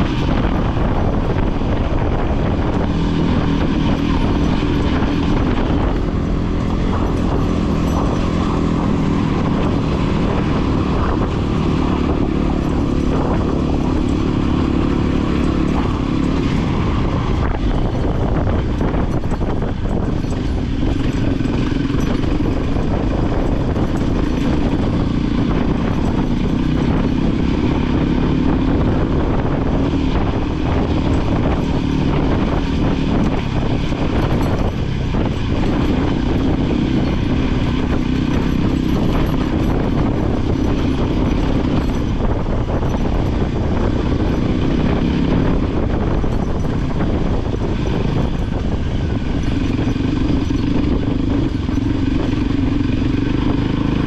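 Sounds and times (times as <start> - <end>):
motorcycle engine running: 0.0 - 54.0
rattling: 0.0 - 54.0
wind noise: 0.0 - 54.0.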